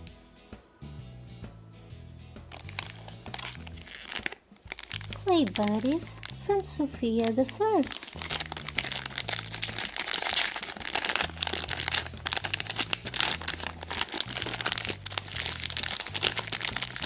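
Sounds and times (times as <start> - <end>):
plastic packaging crinkling: 2.5 - 17.0.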